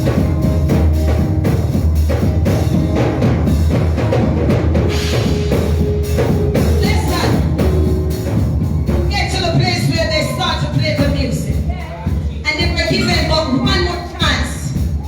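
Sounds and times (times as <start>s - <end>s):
music with drum beat and heavy bass: 0.0s - 15.0s.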